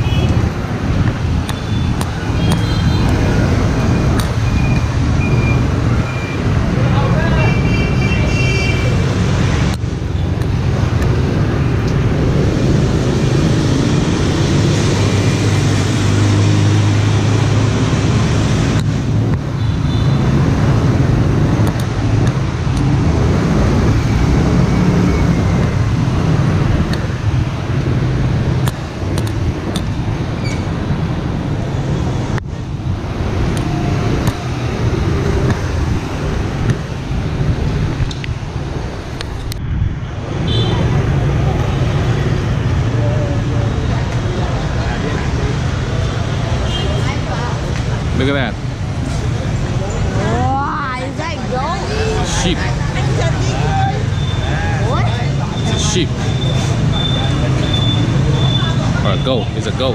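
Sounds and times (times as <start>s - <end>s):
motorbikes and scooters passing: 0.0s - 59.9s.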